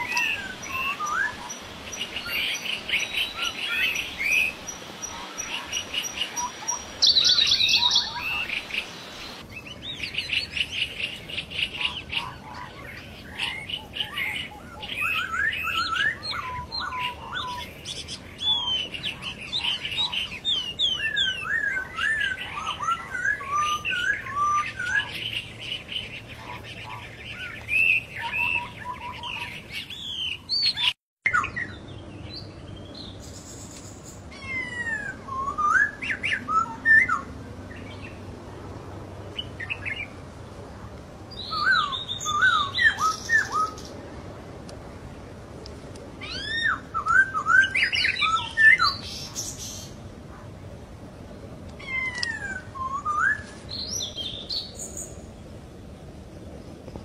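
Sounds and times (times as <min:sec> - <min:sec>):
birds singing whistled notes: 0:00.0 - 0:38.3, 0:41.3 - 0:44.0, 0:46.2 - 0:50.0, 0:51.8 - 0:55.5.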